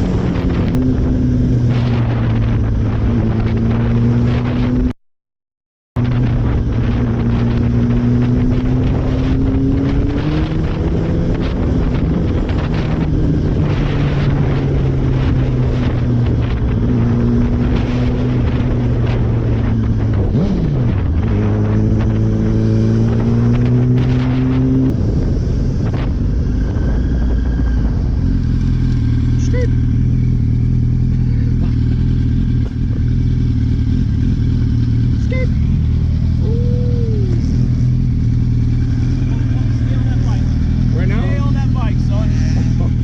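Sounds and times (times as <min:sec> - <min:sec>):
wind on microphone: 0:00.0 - 0:04.9, 0:06.0 - 0:43.0
motorcycle engine running: 0:06.0 - 0:43.0.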